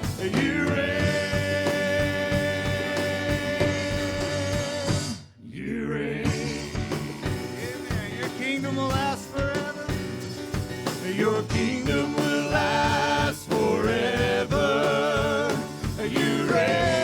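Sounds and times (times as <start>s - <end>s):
praise band playing: 0.0s - 5.3s, 6.2s - 17.0s
drums: 0.0s - 5.4s, 6.1s - 17.0s.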